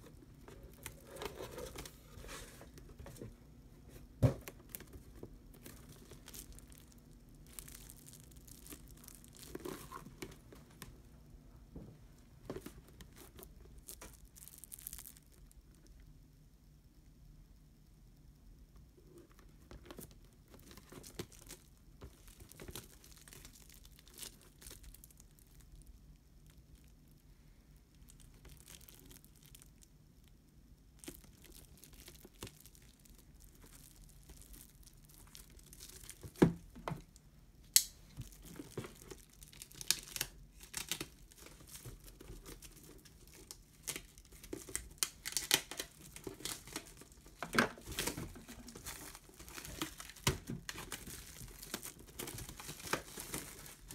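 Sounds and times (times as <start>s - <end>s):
shrink wrap crinkling: 0.0s - 11.0s, 12.1s - 16.0s, 19.0s - 27.2s, 27.8s - 53.9s.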